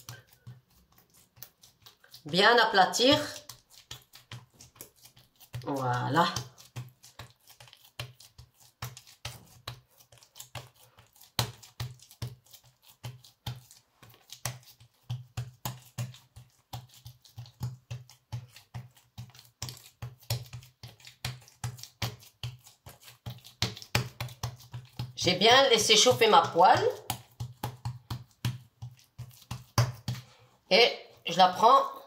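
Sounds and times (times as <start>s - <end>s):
hands patting dough: 0.0s - 32.0s.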